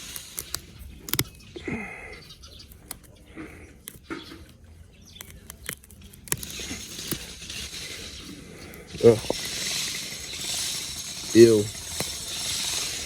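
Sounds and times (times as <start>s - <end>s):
grass and roots pulled from soil: 0.0s - 13.0s.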